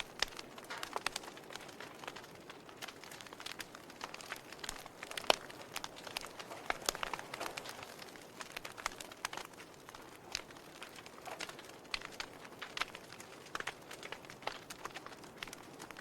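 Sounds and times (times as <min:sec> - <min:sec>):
logs crackling and snapping: 0:00.0 - 0:16.0
sharp pop of burning wood: 0:00.0 - 0:16.0
fire hissing: 0:00.1 - 0:16.0.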